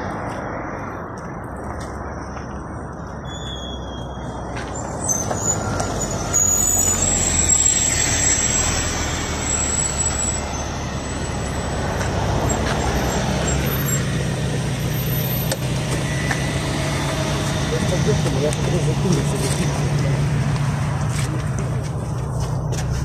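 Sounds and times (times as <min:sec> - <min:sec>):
bus driving past: 0:00.0 - 0:23.0.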